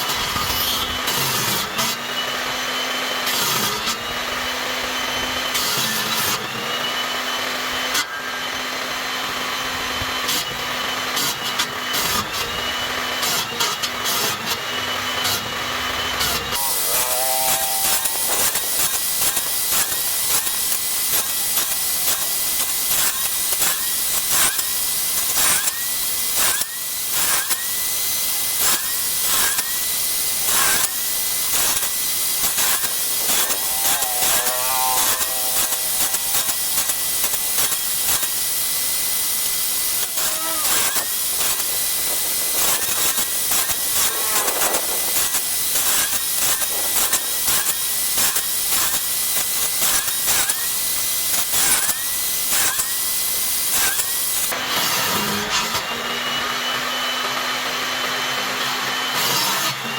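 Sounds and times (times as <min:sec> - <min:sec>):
higher-pitched power tool: 0:00.0 - 0:59.9
power tool motor cutting wood: 0:00.0 - 0:59.9.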